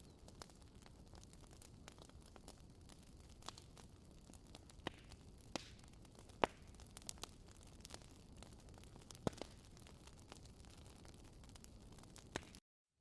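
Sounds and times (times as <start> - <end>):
campfire crackling pops: 0.0 - 12.6.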